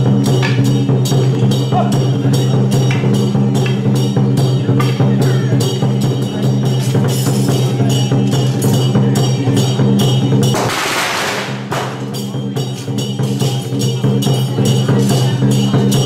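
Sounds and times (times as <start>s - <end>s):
temple drums gongs and cymbals: 0.0s - 16.0s.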